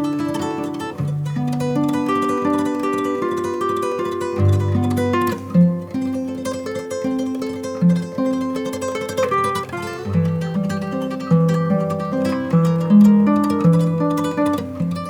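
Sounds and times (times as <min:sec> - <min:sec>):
plucked string music with bass: 0:00.0 - 0:15.0.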